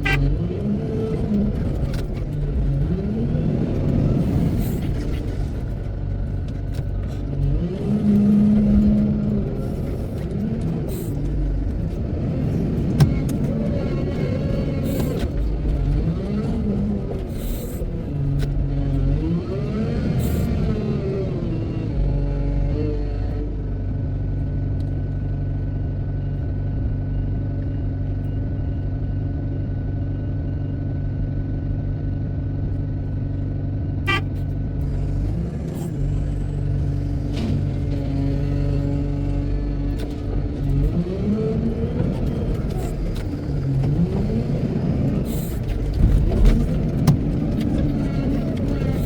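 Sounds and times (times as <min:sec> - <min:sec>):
wheel loader diesel engine: 0:00.0 - 0:49.0.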